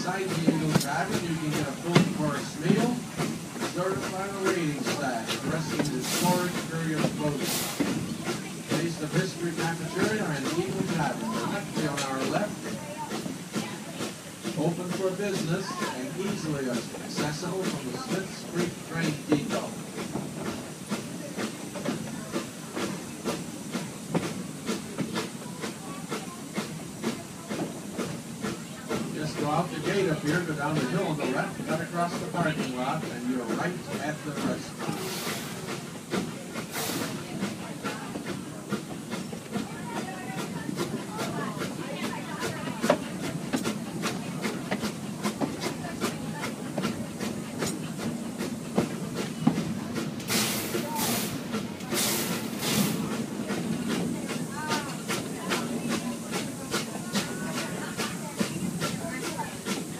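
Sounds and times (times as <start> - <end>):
steady steam hiss: 0.0 - 59.9
steam locomotive chuffing: 0.0 - 59.9
train wheels clacking: 0.0 - 59.9.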